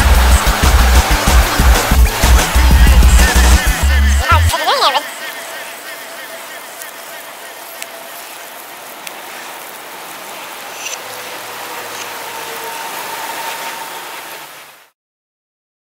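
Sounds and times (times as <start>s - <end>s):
steady rushing noise: 0.2s - 14.9s.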